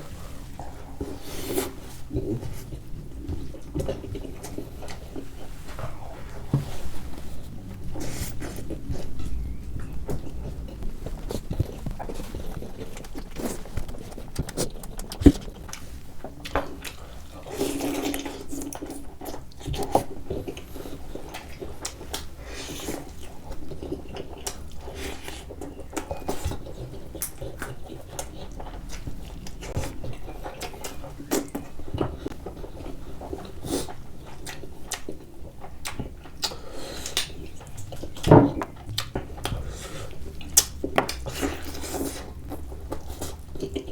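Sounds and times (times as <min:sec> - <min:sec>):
chewing and wet smacking: 0:00.0 - 0:43.9.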